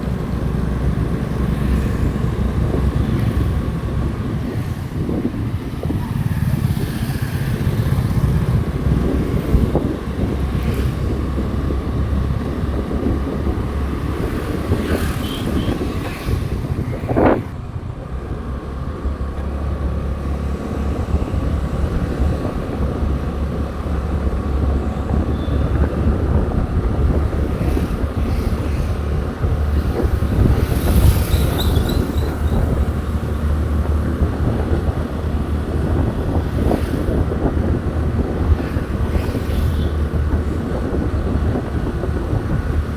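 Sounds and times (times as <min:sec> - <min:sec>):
wind rush on microphone: 0:00.0 - 0:42.9.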